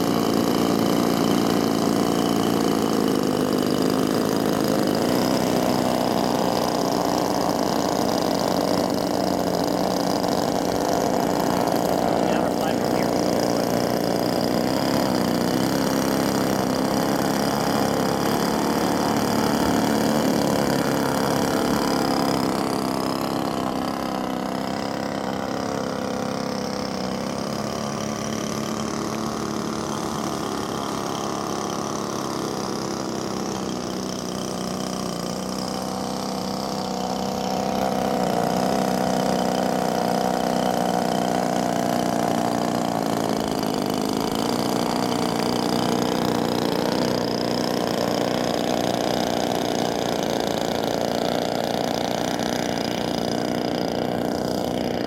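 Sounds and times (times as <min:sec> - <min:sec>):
model aircraft engines at low throttle: 0:00.0 - 0:55.0.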